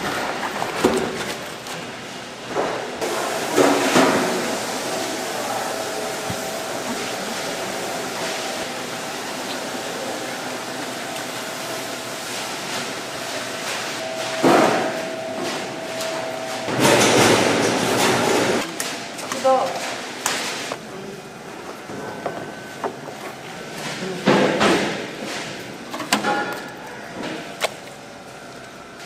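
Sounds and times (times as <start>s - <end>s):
machinery running with high hum: 0.0s - 29.0s.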